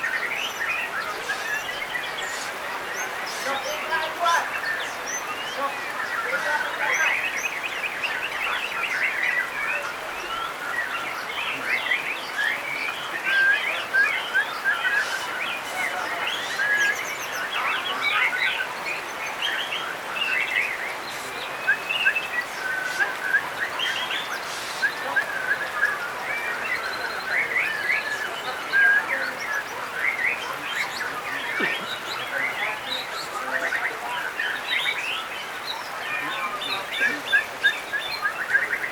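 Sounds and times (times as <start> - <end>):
songbirds singing whistles and trills: 0.0 - 38.9.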